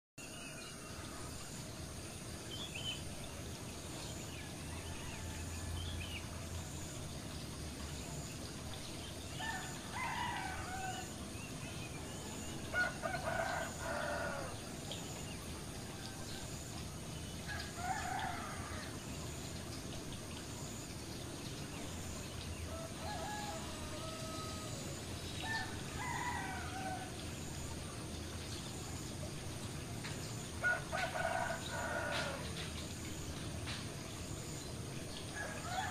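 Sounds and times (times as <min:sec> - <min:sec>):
water splashing into pond: 0:00.8 - 0:35.9.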